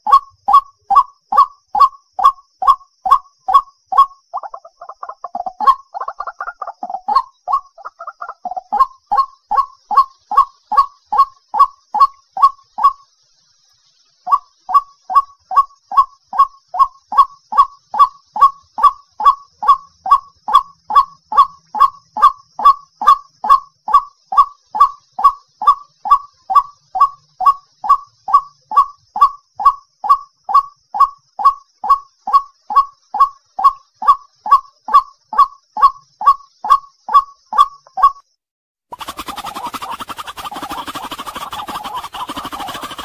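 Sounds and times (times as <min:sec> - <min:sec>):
waterhen calling: 0:00.0 - 0:13.2, 0:13.9 - 0:38.2, 0:38.9 - 0:43.0.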